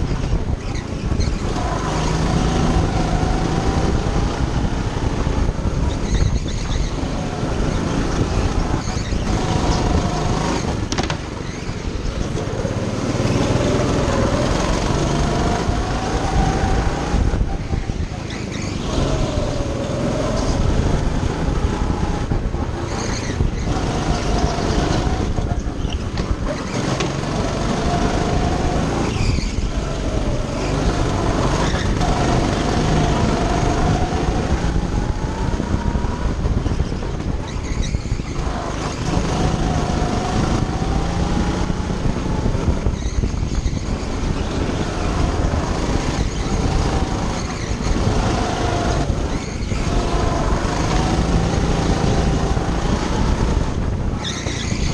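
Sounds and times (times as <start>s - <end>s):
go-kart engine running: 0.0s - 54.9s.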